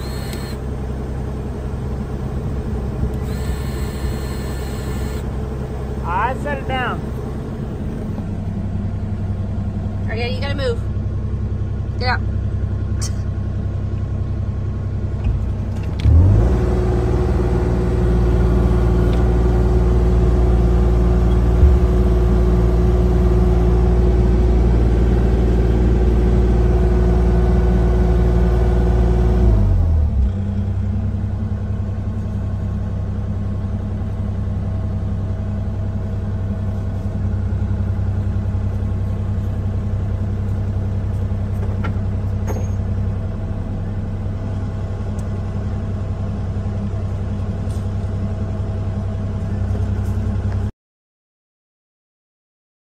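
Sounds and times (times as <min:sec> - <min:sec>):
diesel engine idling and revving: 0:00.0 - 0:50.7.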